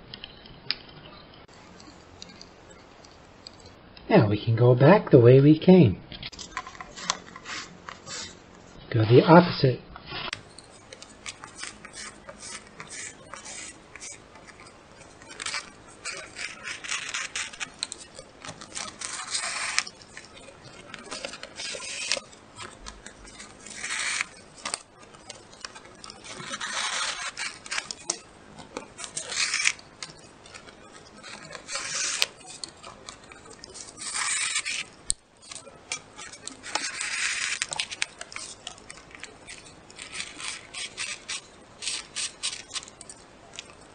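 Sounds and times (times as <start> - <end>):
card rustling: 6.2 - 43.9
shoelace rasping through card: 6.3 - 9.3, 10.0 - 43.9.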